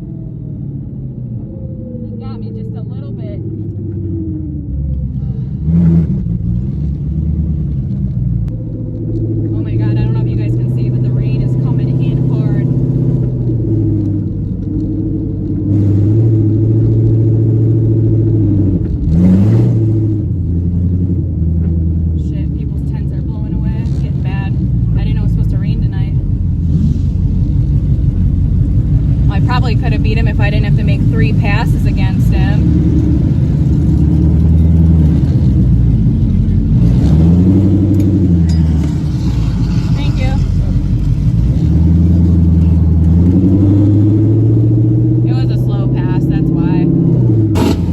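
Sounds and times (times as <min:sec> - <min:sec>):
car engine running: 0:00.0 - 0:47.9
engine revving: 0:00.0 - 0:47.9.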